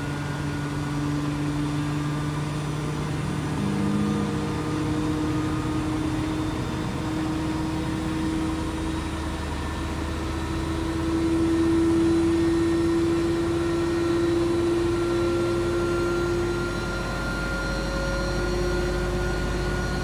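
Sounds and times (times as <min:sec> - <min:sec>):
washing machine motor whine: 0:00.0 - 0:20.0.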